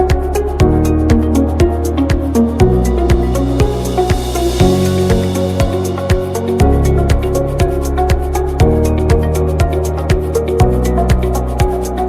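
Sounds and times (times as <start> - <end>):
deep kick drum: 0.0 - 12.0.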